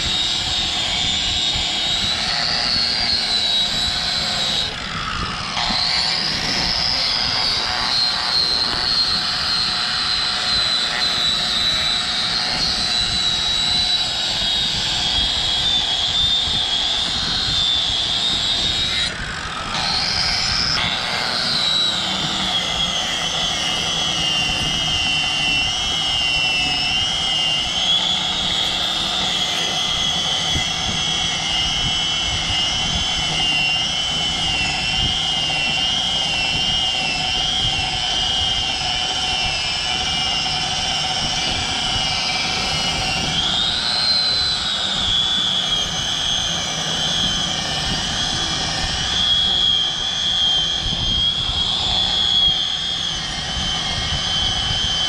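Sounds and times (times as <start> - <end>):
angle grinder shaving rubber: 0.0 - 55.0.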